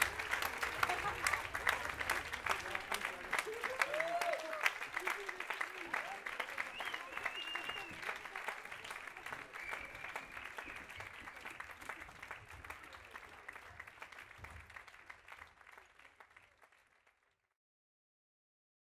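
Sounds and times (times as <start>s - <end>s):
audience applauding: 0.0s - 17.4s.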